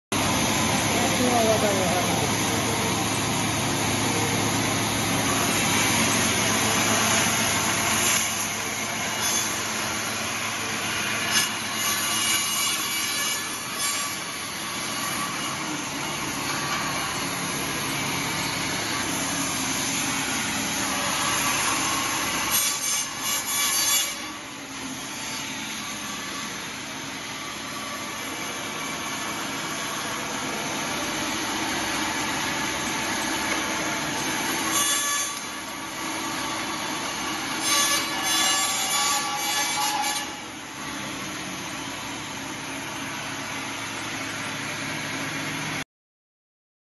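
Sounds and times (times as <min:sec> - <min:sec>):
band saw running: 0:00.2 - 0:45.8
saw cutting wooden boards: 0:00.2 - 0:45.8.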